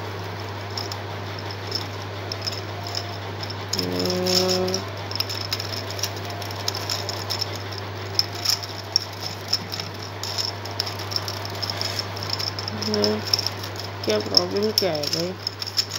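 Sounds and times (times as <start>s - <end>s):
low hum: 0.0s - 15.9s
plastic puzzle clicking and rattling: 0.8s - 15.9s.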